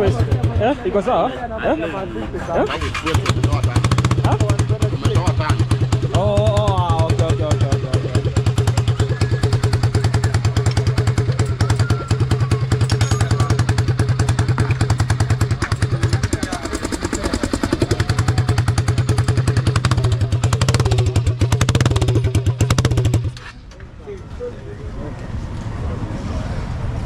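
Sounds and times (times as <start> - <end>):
motorcycle engine idling: 0.0 - 23.7.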